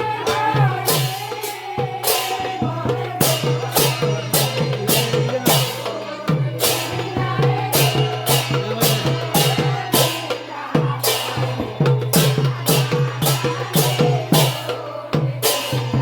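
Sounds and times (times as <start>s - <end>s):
rhythmic percussive strikes: 0.0s - 16.0s.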